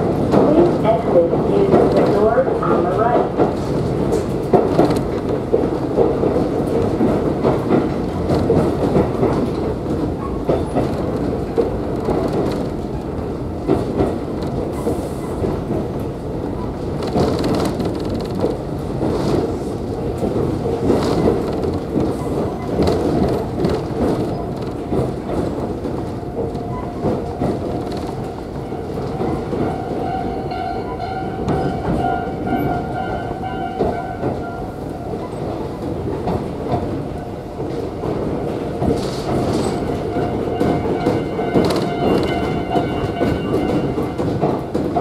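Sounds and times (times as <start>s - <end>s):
train interior rumble: 0.0s - 45.0s
wheels clacking over rail joints: 0.0s - 45.0s.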